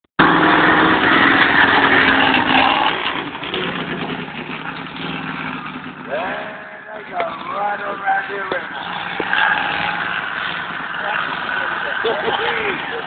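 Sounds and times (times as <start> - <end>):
monster truck engine droning: 0.2 - 13.0.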